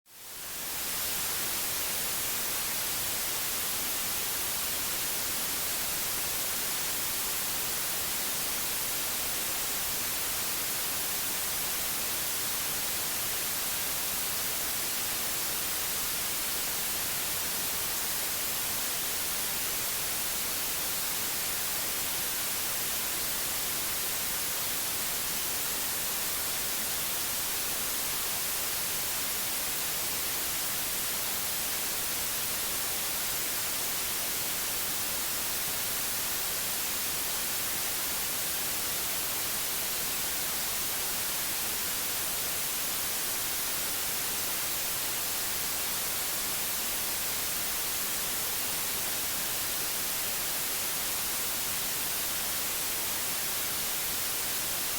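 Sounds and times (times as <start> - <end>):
white noise hiss: 0.1 - 54.9.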